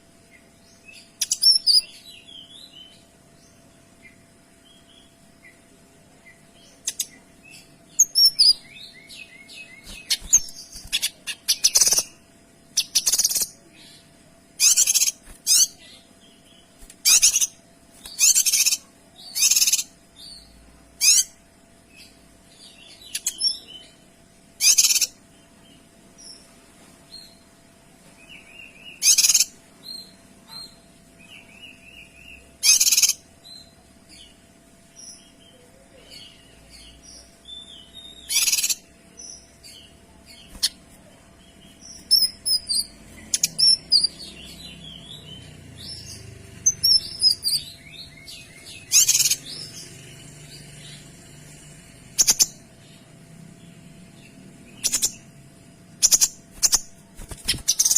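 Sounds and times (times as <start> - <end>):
bird chirping softly: 0.0 - 57.9.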